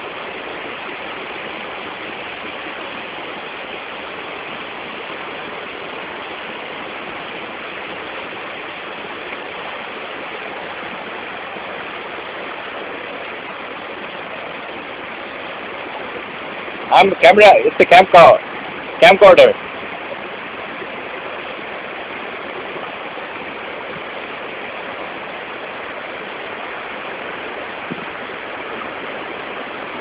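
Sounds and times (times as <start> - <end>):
waterfall gushing: 0.0 - 30.0.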